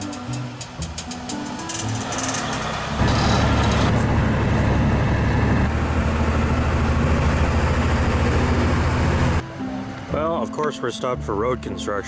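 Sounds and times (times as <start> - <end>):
vehicle engine and road rumble: 0.0 - 10.2.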